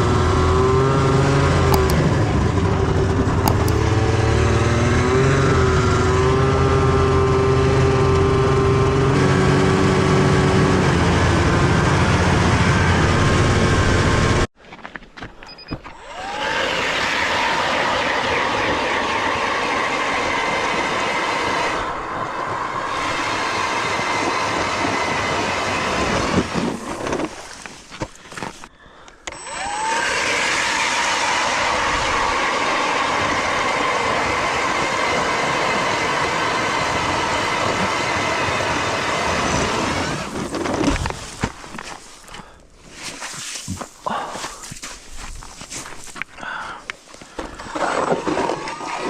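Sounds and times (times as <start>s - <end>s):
ice auger motor drilling: 0.0s - 14.5s, 15.9s - 28.5s, 29.2s - 42.5s, 47.2s - 49.0s.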